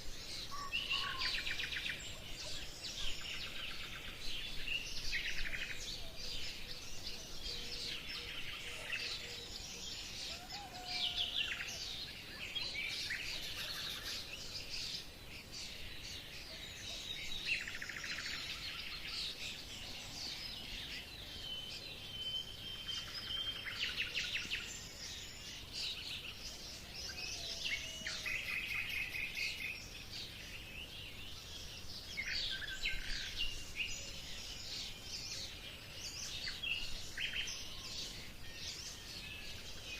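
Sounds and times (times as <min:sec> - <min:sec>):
birdsong chorus: 0:00.0 - 0:39.9.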